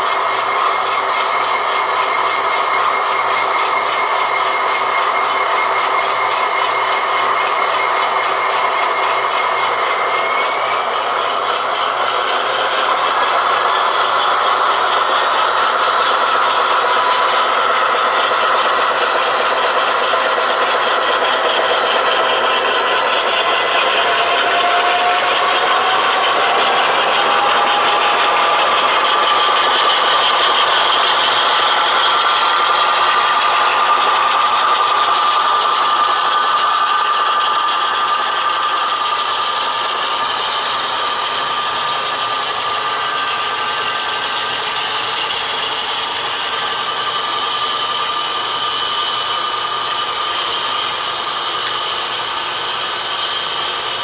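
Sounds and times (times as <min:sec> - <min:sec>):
model locomotive engine sound: 0:00.0 - 0:54.0
model train wheels rattling on track: 0:00.0 - 0:54.0.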